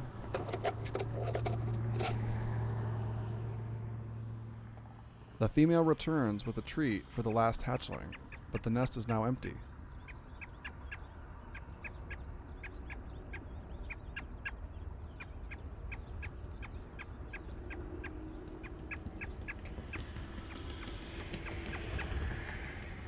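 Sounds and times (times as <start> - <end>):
steady low rumble: 4.4 - 23.0.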